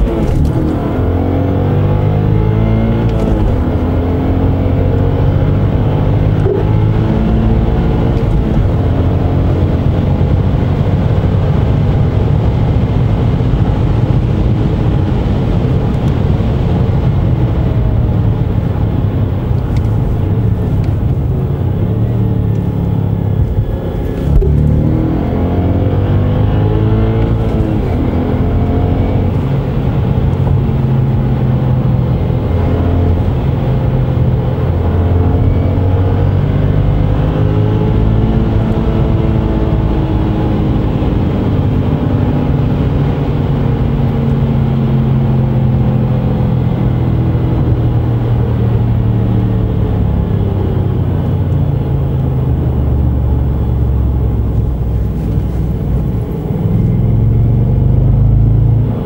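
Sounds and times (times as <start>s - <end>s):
car engine accelerating hard: 0.0s - 59.0s
road and wind noise: 0.0s - 59.0s.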